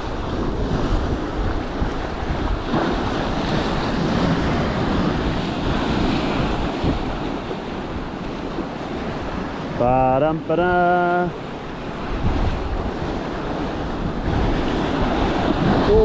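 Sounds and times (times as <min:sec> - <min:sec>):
sea waves breaking over boulders: 0:00.0 - 0:16.0
wind buffeting microphone: 0:00.0 - 0:16.0.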